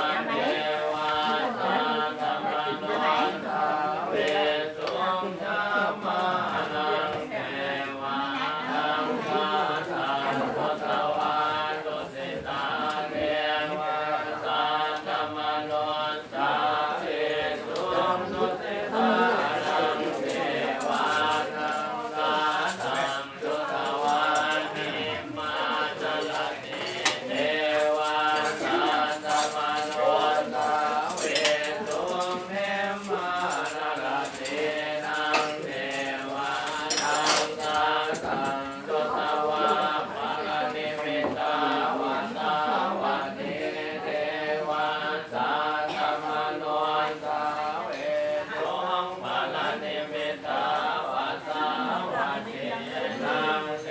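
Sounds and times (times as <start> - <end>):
group chanting in unison: 0.0 - 53.9.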